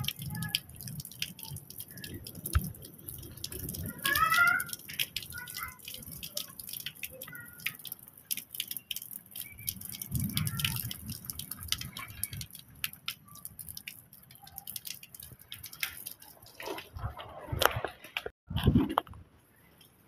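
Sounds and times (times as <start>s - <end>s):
raindrops pattering and dripping: 0.0s - 18.4s.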